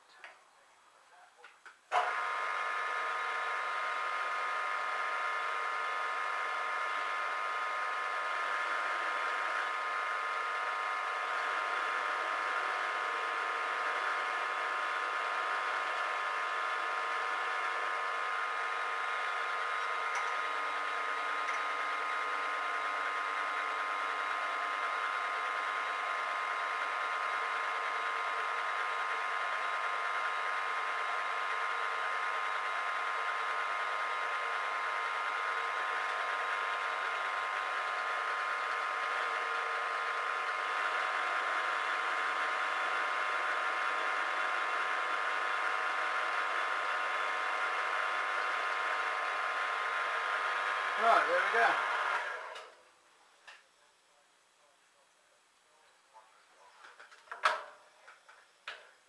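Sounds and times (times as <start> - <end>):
mill-drill whine: 1.9 - 52.8
drill bit cutting aluminium: 2.0 - 52.6.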